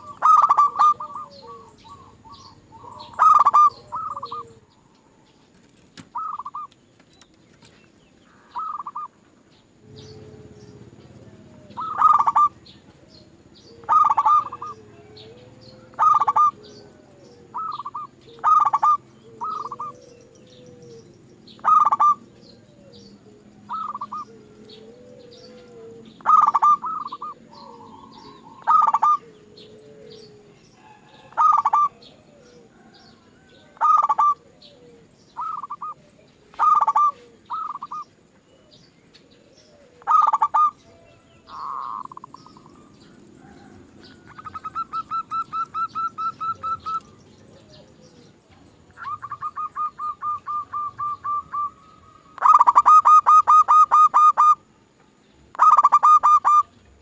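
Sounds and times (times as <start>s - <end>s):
dove cooing: 0.0s - 6.8s, 8.3s - 57.0s.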